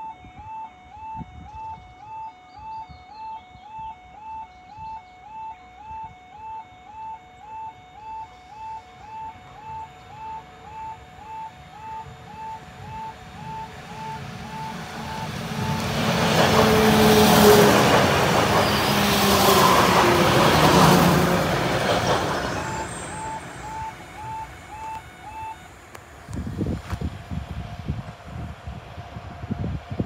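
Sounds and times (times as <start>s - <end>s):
level crossing alarm beeps: 0.0s - 25.9s
train engine and wheels on rails: 0.0s - 30.0s.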